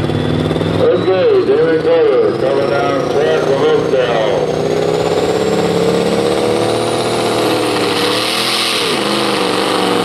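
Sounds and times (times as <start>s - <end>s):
diesel engine under heavy load: 0.0s - 10.0s
high whine: 0.0s - 10.0s.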